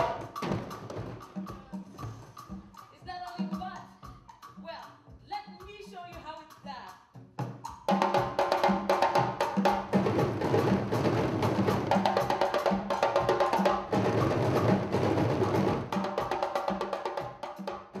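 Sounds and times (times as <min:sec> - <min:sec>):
deeper drum beat: 0:00.0 - 0:18.0
djembe drums fast rhythm: 0:00.0 - 0:18.0.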